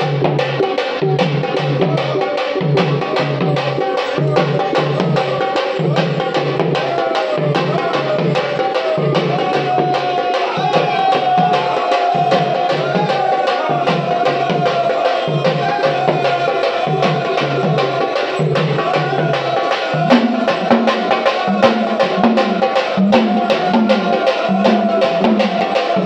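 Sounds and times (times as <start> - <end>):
barrel drum beating: 0.0 - 26.0.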